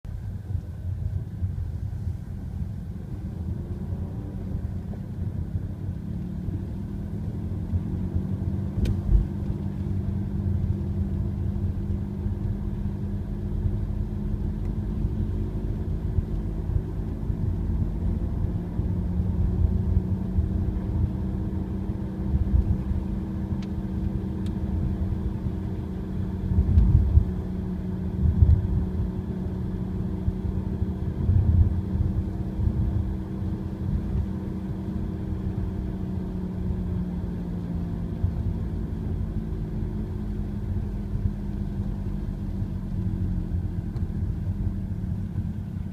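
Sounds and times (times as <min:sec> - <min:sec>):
car driving with droning hum: 0:00.1 - 0:45.9.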